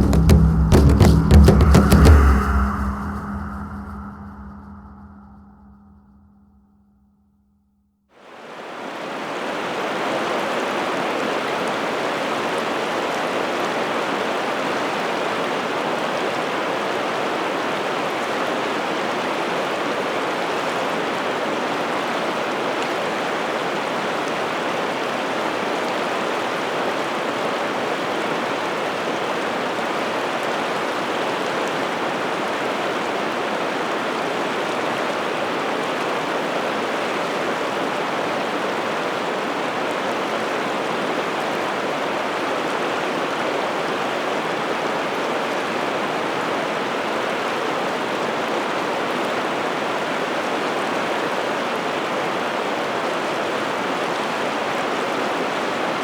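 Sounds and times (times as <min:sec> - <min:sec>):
river water flowing: 0:08.1 - 0:56.0.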